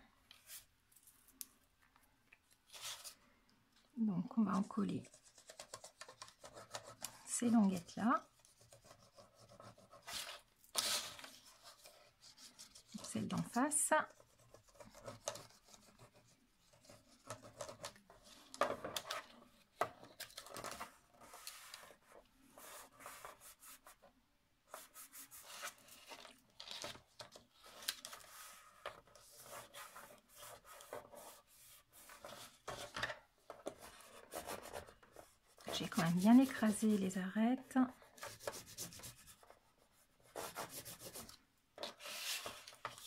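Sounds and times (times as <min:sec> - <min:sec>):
paper rustling and rubbing: 0:05.0 - 0:24.0, 0:24.7 - 0:37.1, 0:37.9 - 0:43.0.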